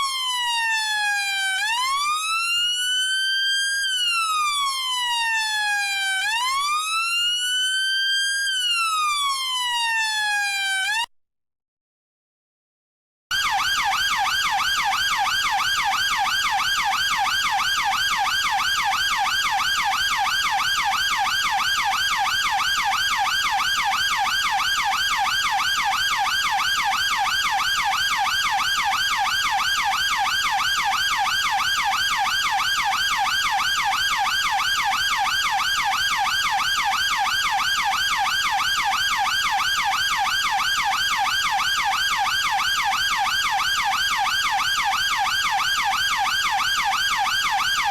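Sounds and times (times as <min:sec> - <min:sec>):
police siren wailing: 0:00.0 - 0:11.1, 0:13.3 - 0:47.9.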